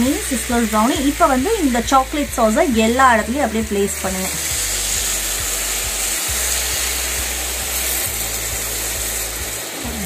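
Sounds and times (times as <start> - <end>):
sauce sizzling on hot plate: 0.0 - 10.0.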